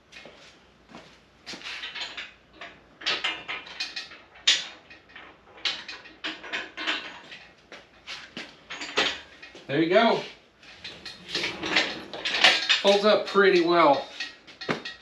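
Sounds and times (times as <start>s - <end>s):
metal clanks and rattles: 1.6s - 9.7s, 10.6s - 15.0s.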